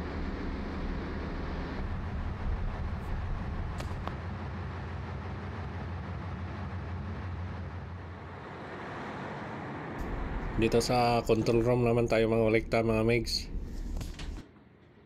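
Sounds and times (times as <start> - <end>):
engine-room machinery drone: 0.0 - 15.0.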